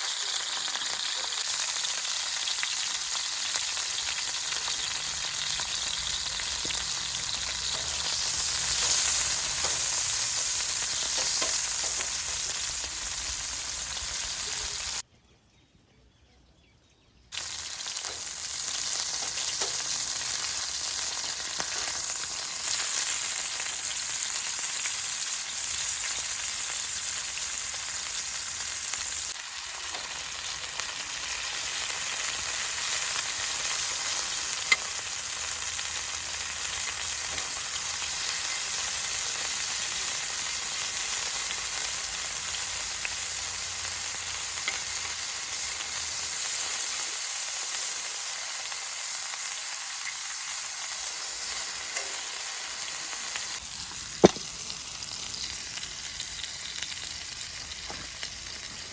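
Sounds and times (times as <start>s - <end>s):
food sizzling in a pan: 0.0s - 15.0s, 17.4s - 58.9s.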